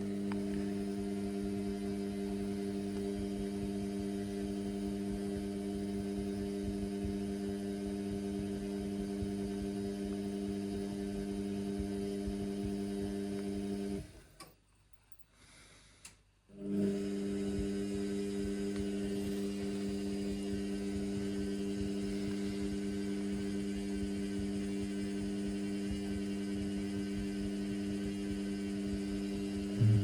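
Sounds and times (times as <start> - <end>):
washing machine motor hum: 0.0 - 14.2, 16.5 - 30.0.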